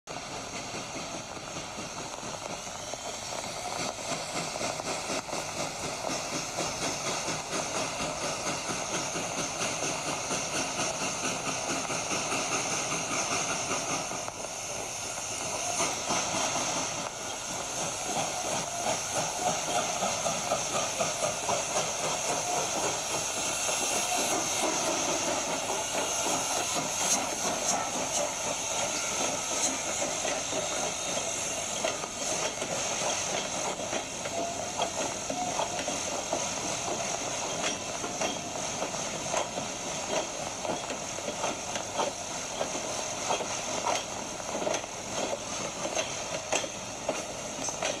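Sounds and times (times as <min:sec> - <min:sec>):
model steam locomotive chuffing: 0:00.1 - 0:48.0
steady steam hiss: 0:00.1 - 0:48.0.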